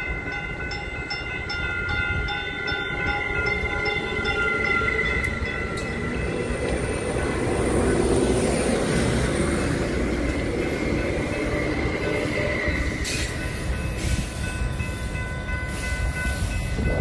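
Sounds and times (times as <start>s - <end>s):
diesel train passing: 0.0s - 17.0s.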